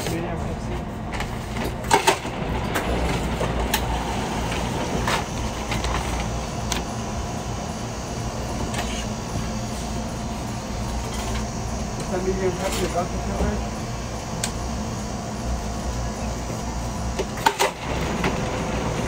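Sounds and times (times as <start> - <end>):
low machine rumble: 0.0 - 19.0.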